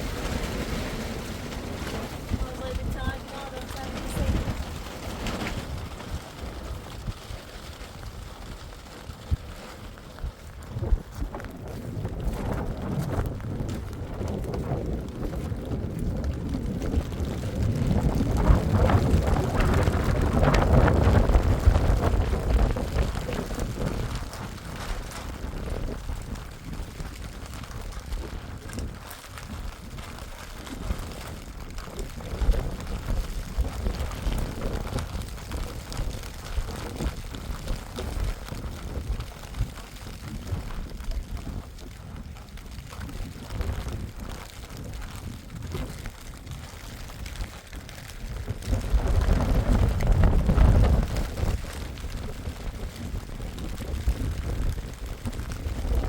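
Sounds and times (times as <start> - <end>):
storm wind buffeting microphone: 0.0 - 56.0.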